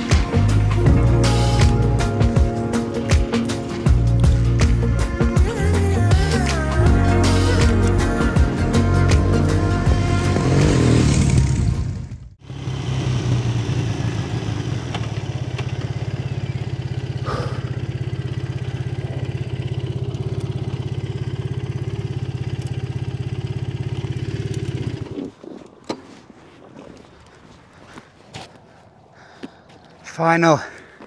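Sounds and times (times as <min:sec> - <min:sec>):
motorcycle engine running and idling: 0:00.0 - 0:27.3.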